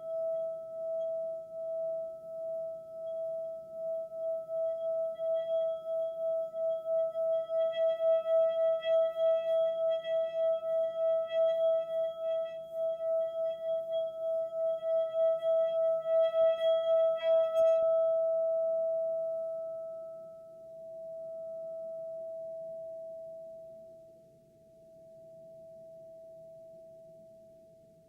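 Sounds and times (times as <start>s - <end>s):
singing bowl wobbling tone: 0.0s - 24.0s.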